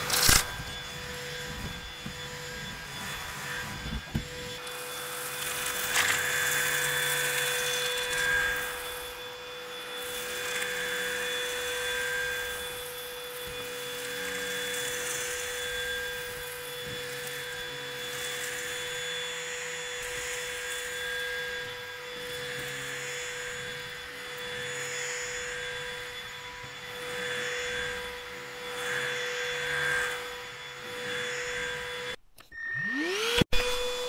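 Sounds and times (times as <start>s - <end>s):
stick vacuum running: 0.0s - 34.0s.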